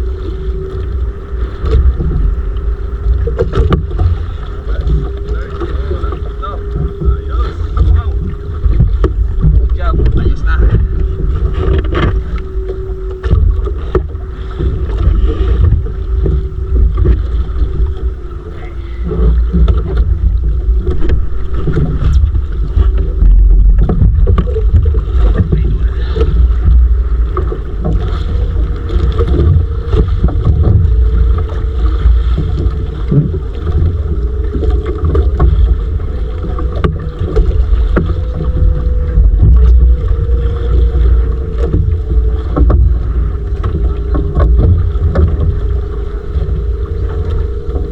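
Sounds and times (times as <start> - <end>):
boat engine droning: 0.0 - 47.9
wind buffeting microphone: 0.0 - 47.9.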